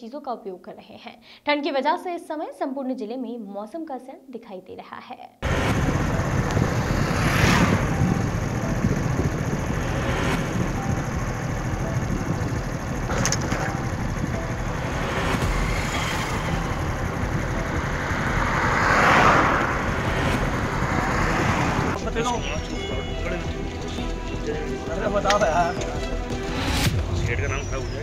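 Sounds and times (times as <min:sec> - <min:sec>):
highway traffic rumble: 0:05.4 - 0:28.0.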